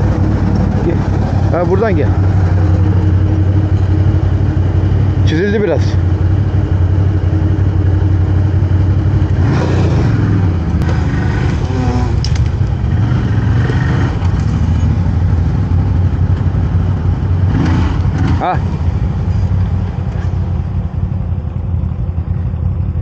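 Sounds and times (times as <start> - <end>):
quad engine running at low revs: 0.0 - 23.0.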